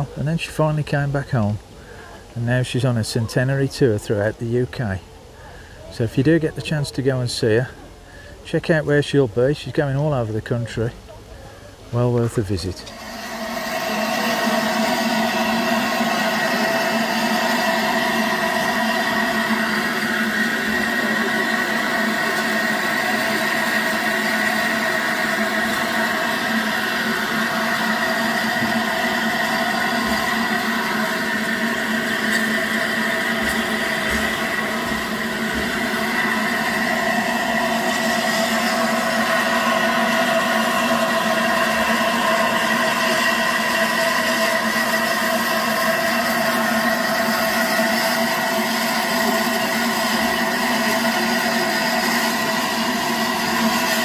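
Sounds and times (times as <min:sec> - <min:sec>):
constant mechanical hum: 0:00.0 - 0:54.0
steam hissing: 0:00.0 - 0:54.0.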